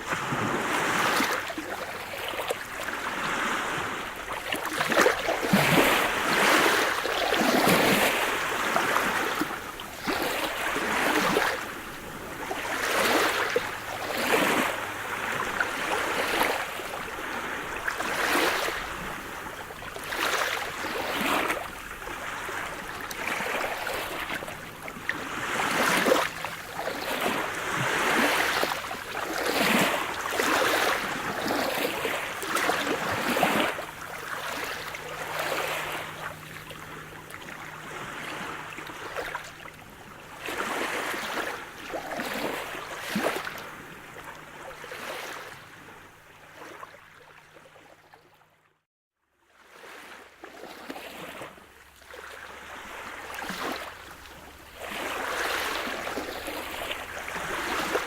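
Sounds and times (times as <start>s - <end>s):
waves breaking: 0.0s - 47.8s, 49.6s - 58.0s.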